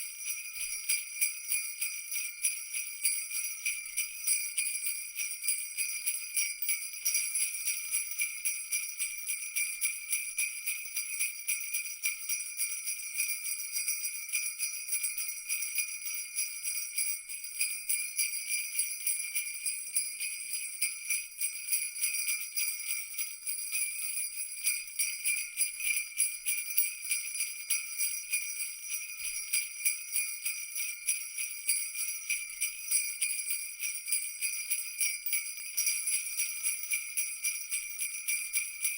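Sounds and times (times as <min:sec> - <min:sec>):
jingle bells shaking: 0:00.0 - 0:38.9.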